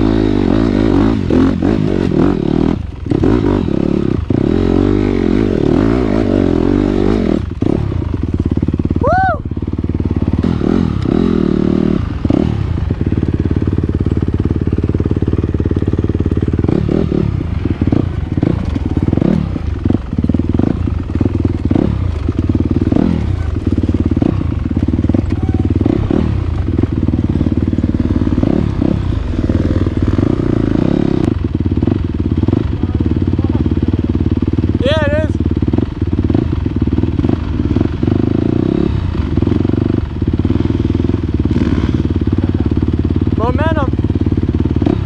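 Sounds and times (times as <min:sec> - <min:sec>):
dirt bike engine running: 0:00.0 - 0:45.0.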